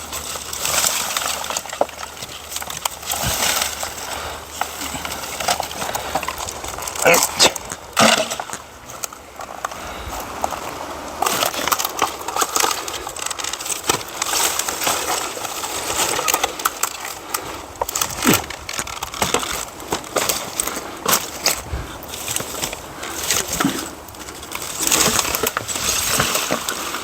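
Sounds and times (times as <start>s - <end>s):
dry wood crunching and snapping: 0.0s - 27.0s.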